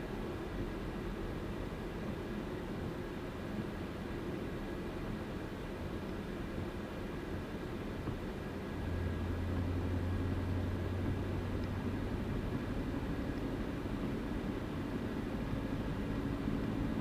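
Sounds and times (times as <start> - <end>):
car engine drone: 0.0 - 17.0
road noise: 0.0 - 17.0.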